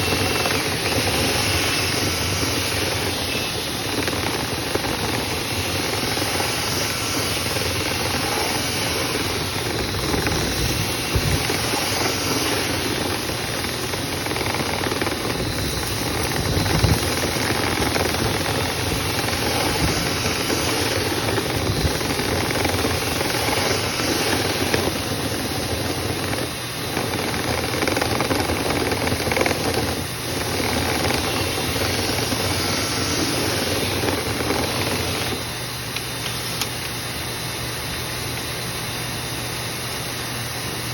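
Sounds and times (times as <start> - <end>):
motor hum: 0.0 - 40.9.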